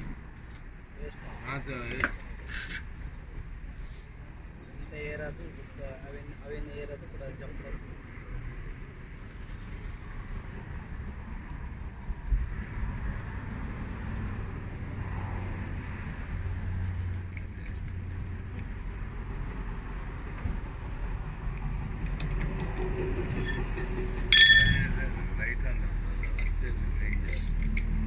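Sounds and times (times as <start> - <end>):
crickets chirping: 0.0 - 28.0
low vehicle rumble: 0.0 - 28.0.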